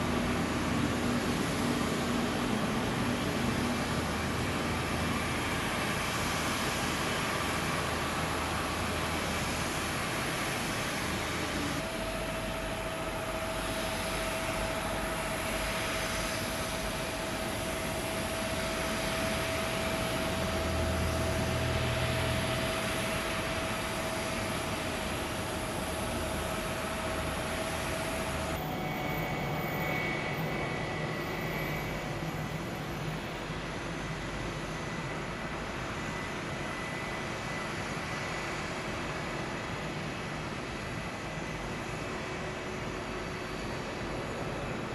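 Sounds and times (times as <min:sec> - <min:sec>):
jet engine whine: 0:00.0 - 0:44.9.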